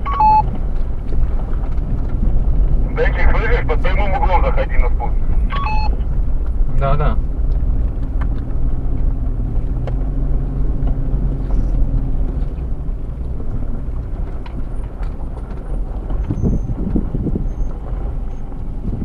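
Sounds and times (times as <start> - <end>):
low thumps: 0.0 - 19.0
vehicle engine rumbling: 0.0 - 19.0.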